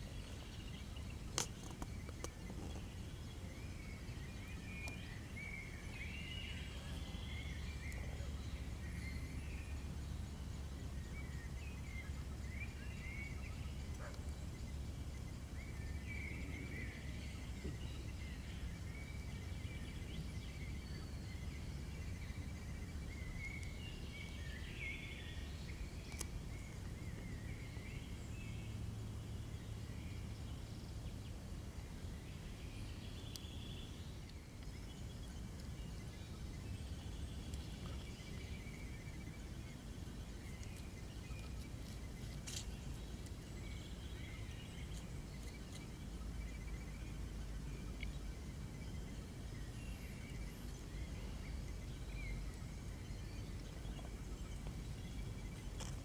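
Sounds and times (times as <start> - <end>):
low steady rumble: 0.0 - 56.0
small birds chirping: 0.0 - 56.0.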